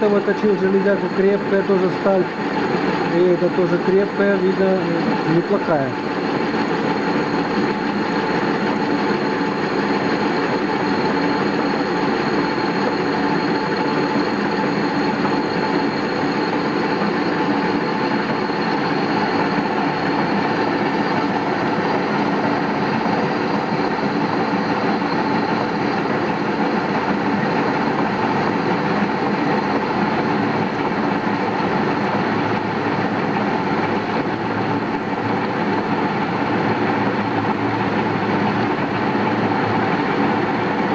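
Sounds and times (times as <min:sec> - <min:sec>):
metal lathe cutting steel: 0:00.0 - 0:40.9.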